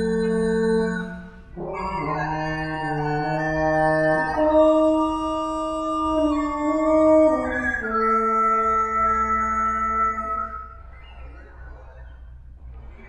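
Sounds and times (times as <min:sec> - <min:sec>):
french horn with layered effects: 0:00.0 - 0:10.8.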